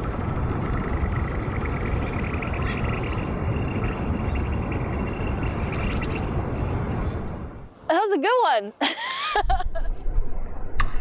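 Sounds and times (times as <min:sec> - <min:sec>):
low rumble of city noise: 0:00.0 - 0:11.0.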